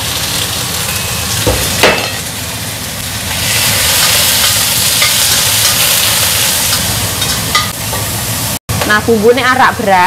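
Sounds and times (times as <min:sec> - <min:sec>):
squid sizzling in hot oil: 0:00.0 - 0:08.6.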